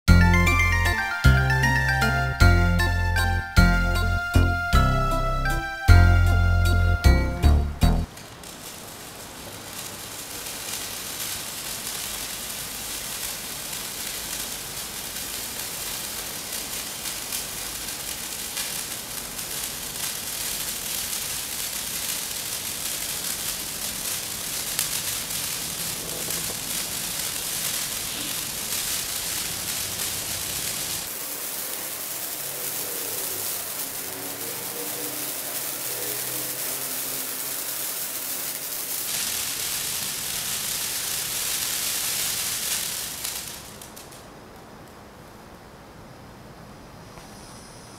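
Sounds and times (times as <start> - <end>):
firework fountain hissing: 0.1 - 45.4.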